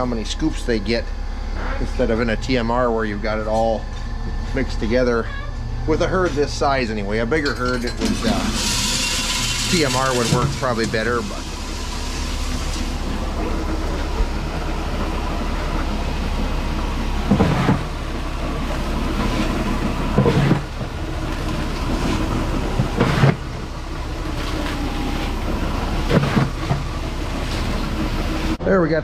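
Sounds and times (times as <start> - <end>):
barn machinery humming: 0.0 - 28.9.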